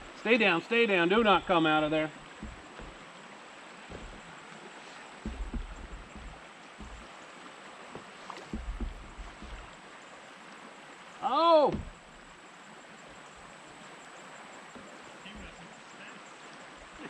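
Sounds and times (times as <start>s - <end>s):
river water rushing: 0.0s - 17.0s
kayak knocks and bumps: 1.0s - 10.0s, 11.4s - 17.0s.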